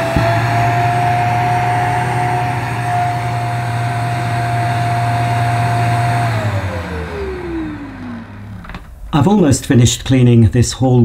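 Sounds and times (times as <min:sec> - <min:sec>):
carpet washer motor spinning down: 0:00.0 - 0:09.5.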